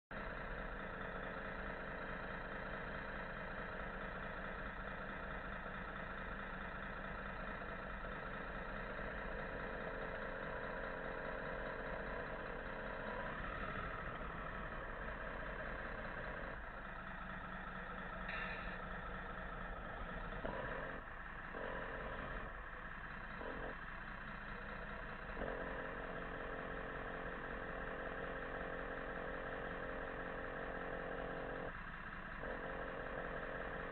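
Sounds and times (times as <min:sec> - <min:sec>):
model trucks humming: 0:00.1 - 0:33.9.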